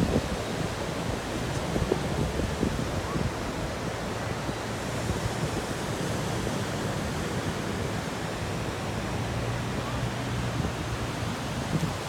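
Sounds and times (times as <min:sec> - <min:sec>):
wind rumbling on microphone: 0:00.0 - 0:07.7, 0:09.3 - 0:12.0
ocean surf breaking on beach: 0:00.0 - 0:12.0.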